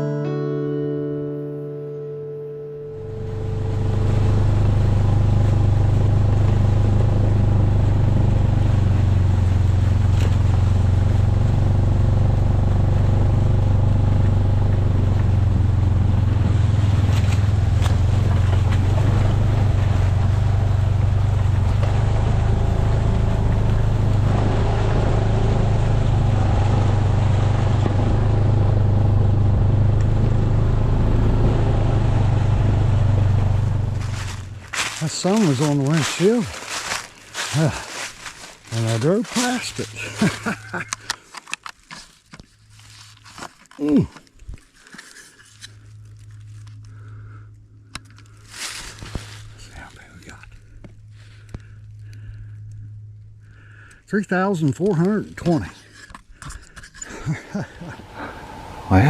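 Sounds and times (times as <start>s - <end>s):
vehicle engine droning: 2.5s - 59.0s
road and wind noise: 2.9s - 59.0s.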